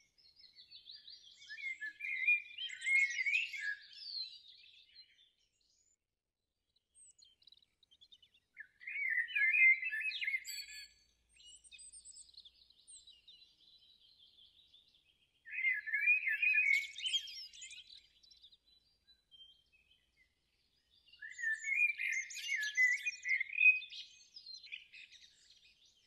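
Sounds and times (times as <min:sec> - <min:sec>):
faint bird chirps: 0:00.0 - 0:06.0, 0:06.7 - 0:26.0
songbird singing: 0:00.0 - 0:06.0, 0:06.8 - 0:26.0.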